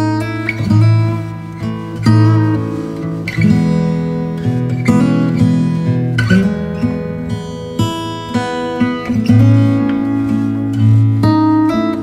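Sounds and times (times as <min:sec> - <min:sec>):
acoustic guitar playing chords: 0:00.0 - 0:12.0.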